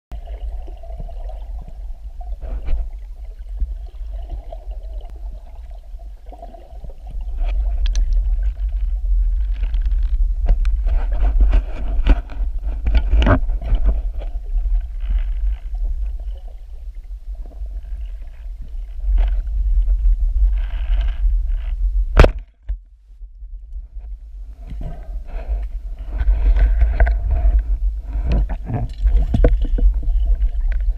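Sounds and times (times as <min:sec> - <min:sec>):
underwater rumble of moving water: 0:00.1 - 0:30.9.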